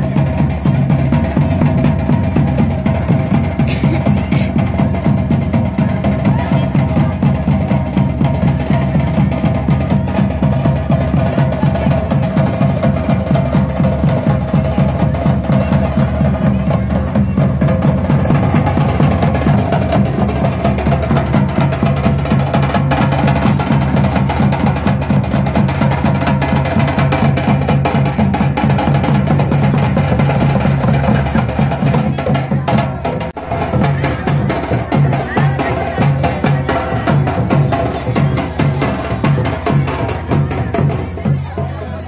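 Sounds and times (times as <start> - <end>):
folk drums beating: 0.0 - 42.0.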